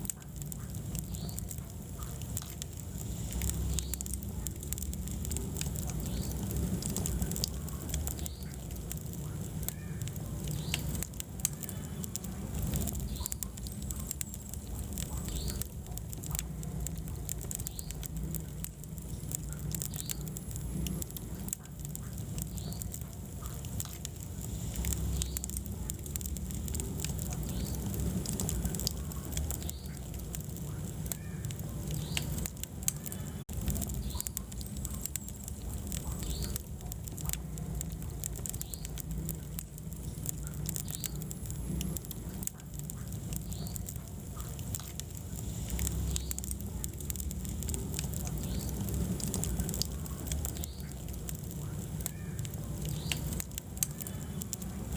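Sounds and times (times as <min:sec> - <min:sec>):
burning logs crackling: 0:00.0 - 0:54.9
low rumble of flames: 0:00.0 - 0:54.9.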